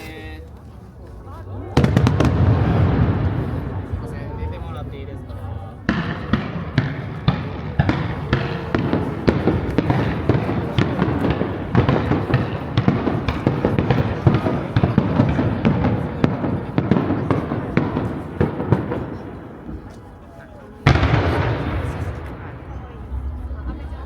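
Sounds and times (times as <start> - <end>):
fireworks bangs and crackles: 1.5 - 24.0
low booming: 1.6 - 19.9, 20.9 - 24.0.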